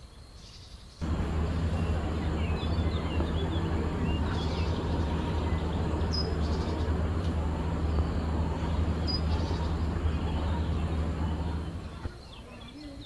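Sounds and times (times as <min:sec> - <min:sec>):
low motor hum: 0:01.0 - 0:12.1
noisy wash: 0:01.0 - 0:12.1.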